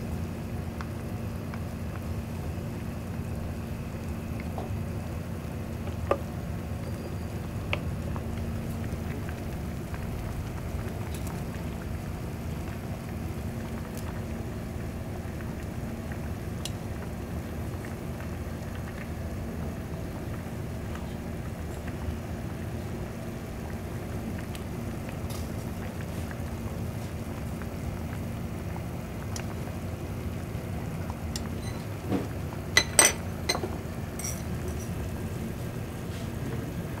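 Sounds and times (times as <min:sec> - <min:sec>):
broth bubbling in a pot: 0:00.0 - 0:37.0
steady low hum: 0:00.0 - 0:37.0.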